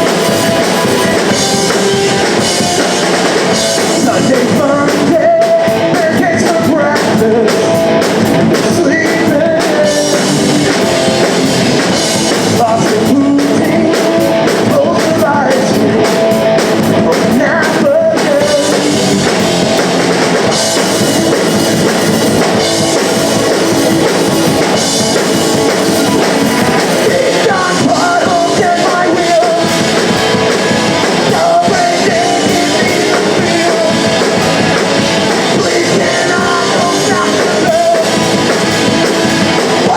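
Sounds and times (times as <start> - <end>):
person singing: 0.0 - 19.6, 24.6 - 39.9
punk rock band playing: 0.0 - 39.9.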